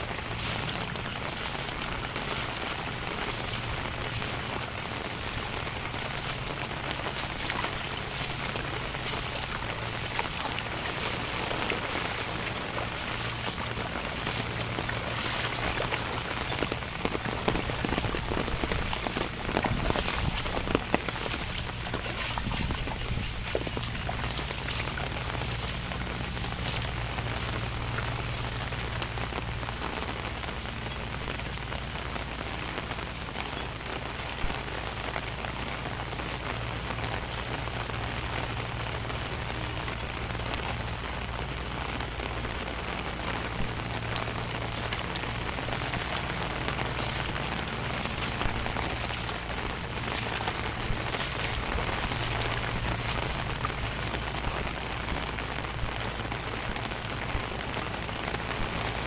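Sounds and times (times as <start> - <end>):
low steady hum: 0.0 - 59.0
rain falling: 0.0 - 59.0.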